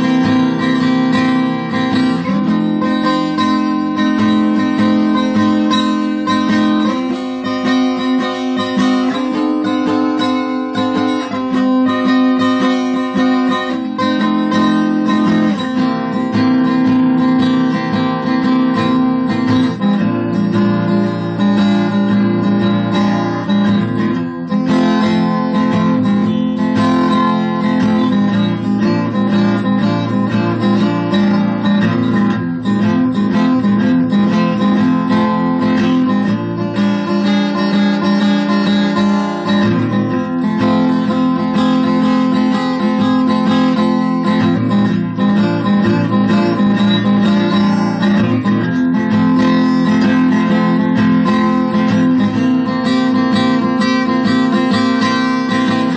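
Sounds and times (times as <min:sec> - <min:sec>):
blues guitar chords: 0:00.0 - 0:55.9.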